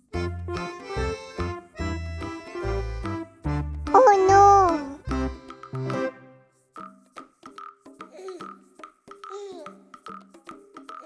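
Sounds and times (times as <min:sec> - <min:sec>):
bouncy background music: 0:00.0 - 0:11.0.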